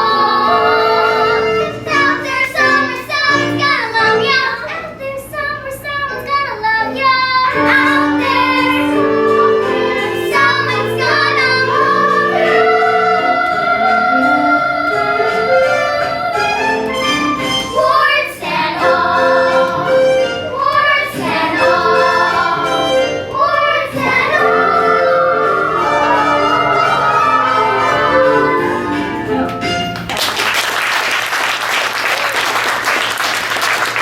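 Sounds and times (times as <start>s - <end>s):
children's chorus singing: 0.0s - 29.8s
backing music: 0.0s - 30.5s.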